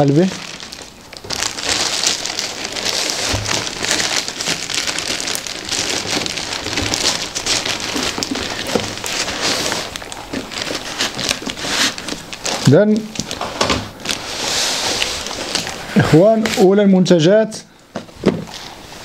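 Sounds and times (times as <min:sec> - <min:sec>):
plastic mailing bag crinkling: 0:00.0 - 0:17.2.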